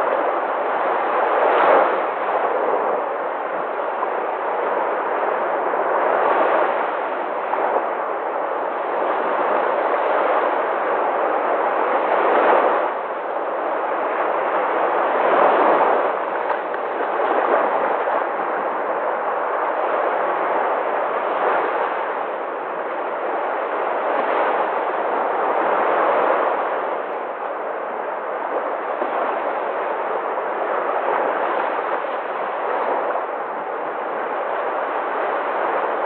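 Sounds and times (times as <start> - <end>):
sea waves breaking: 0.0 - 36.0.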